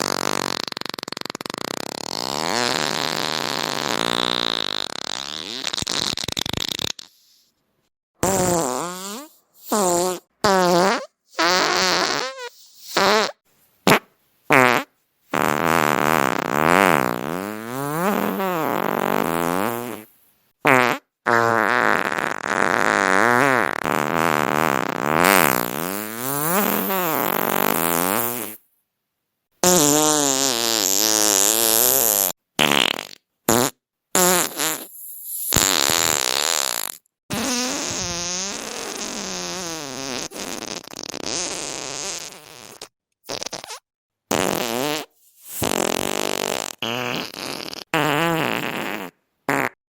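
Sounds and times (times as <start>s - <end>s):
fart sound effects: 0.0s - 7.5s, 8.2s - 28.6s, 29.6s - 49.8s.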